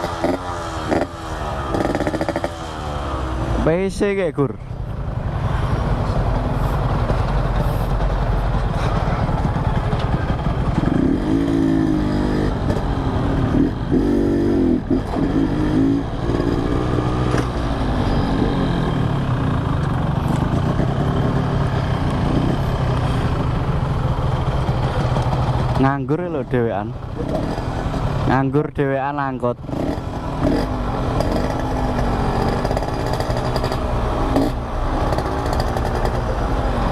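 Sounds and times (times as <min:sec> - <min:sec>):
two-stroke motorcycle engine revving: 0:00.0 - 0:03.9, 0:08.8 - 0:28.6, 0:29.4 - 0:36.9.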